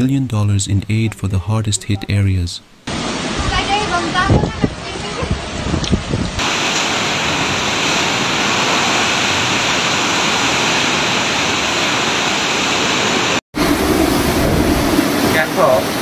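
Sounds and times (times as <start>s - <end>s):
heavy rain in strong wind: 2.9s - 16.0s.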